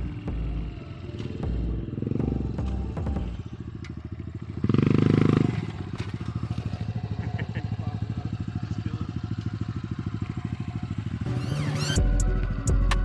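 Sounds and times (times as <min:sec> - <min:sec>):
dirt bike engine idling and revving: 0:00.0 - 0:13.0.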